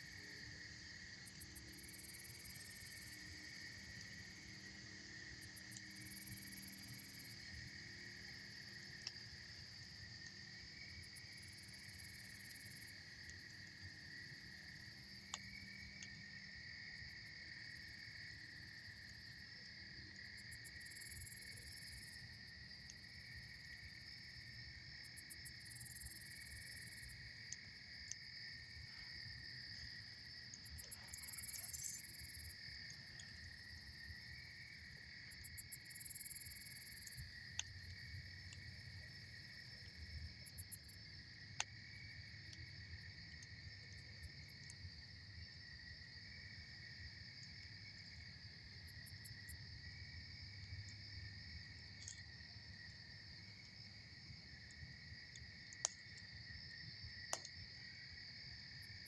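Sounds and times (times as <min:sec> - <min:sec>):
night insects chorus: 0:00.0 - 0:59.0.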